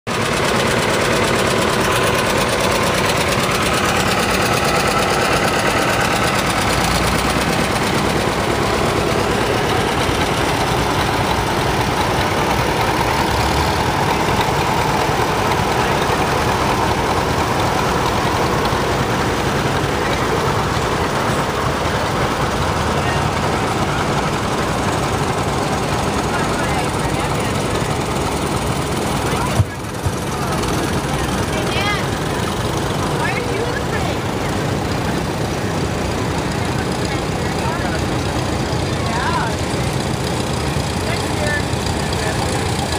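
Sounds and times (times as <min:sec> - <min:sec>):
tractor engines running: 0:00.0 - 0:42.9.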